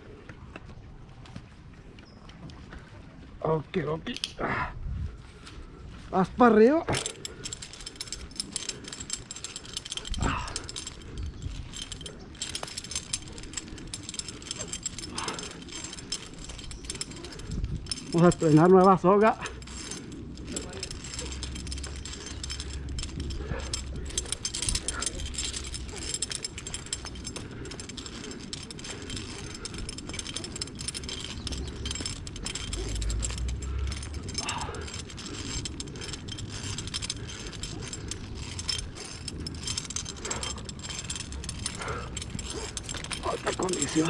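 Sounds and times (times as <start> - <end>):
metal climbing hardware jangling: 4.0 - 4.4, 5.9 - 44.0.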